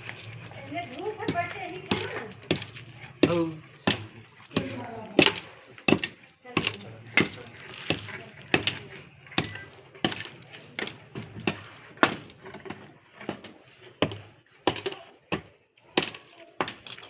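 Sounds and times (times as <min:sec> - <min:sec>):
hand tool striking hard material: 0:00.0 - 0:17.0.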